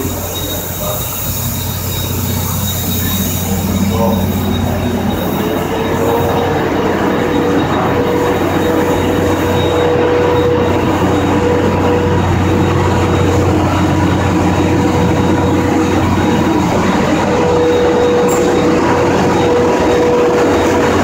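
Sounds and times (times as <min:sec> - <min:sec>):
low hum: 0:00.0 - 0:21.0
steady mid-pitched whine: 0:00.0 - 0:21.0
steam locomotive hissing: 0:00.0 - 0:21.0.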